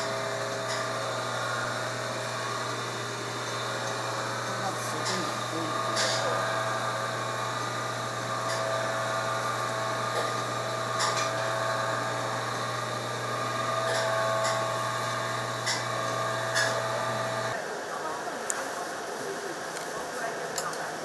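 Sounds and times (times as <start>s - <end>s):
machine hum and whine: 0.0s - 18.0s.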